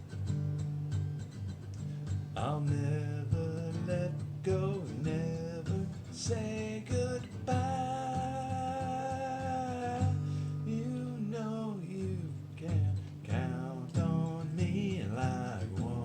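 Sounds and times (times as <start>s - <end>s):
acoustic guitar strumming: 0.0s - 16.0s
person singing: 2.4s - 16.0s.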